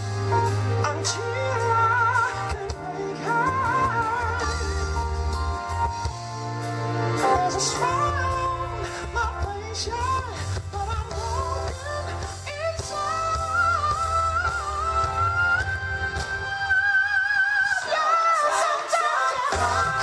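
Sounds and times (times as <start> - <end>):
live band with drums and bass: 0.0 - 20.0
man singing: 0.7 - 5.7, 7.2 - 20.0.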